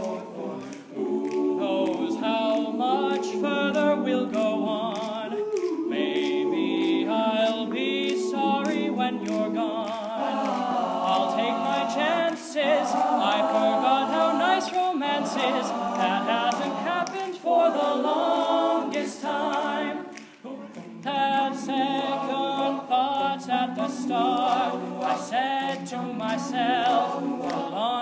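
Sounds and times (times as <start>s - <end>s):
male a cappella group singing: 0.0s - 28.0s.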